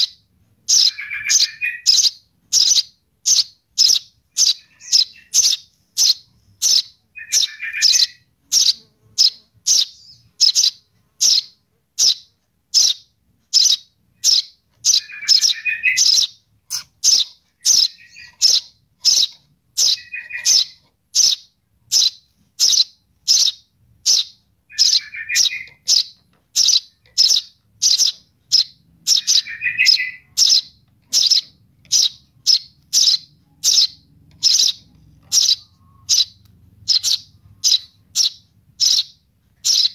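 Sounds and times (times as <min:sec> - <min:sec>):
sparrow chick chirping: 0:00.0 - 0:39.9.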